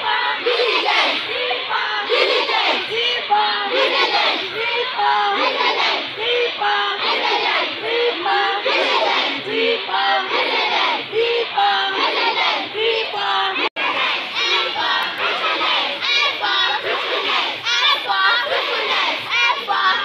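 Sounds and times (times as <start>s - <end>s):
group of girls chanting: 0.0s - 20.0s.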